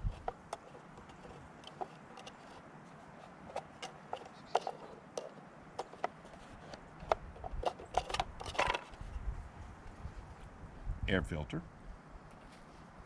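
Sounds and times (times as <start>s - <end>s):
scraping rustle: 0.0s - 10.5s, 12.3s - 12.9s.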